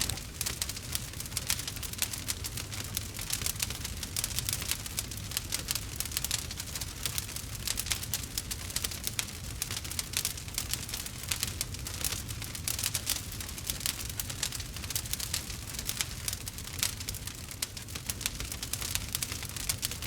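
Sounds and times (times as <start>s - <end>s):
low rumble of flame: 0.0s - 20.0s
wood fire crackling and popping: 0.0s - 20.0s.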